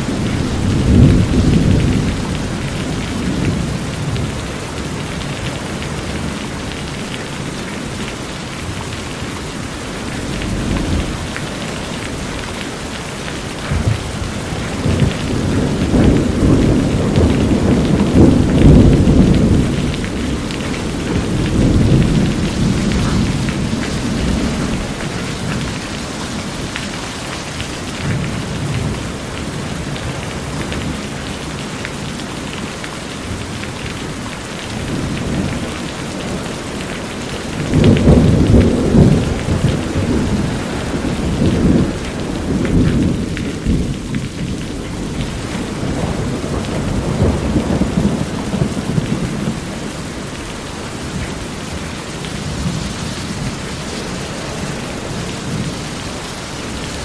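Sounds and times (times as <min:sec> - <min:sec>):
thunder rumbling: 0:00.0 - 0:08.8, 0:09.7 - 0:31.1, 0:34.7 - 0:57.0
rain on a metal roof: 0:00.0 - 0:57.0
water pouring off roof edge: 0:00.0 - 0:57.0.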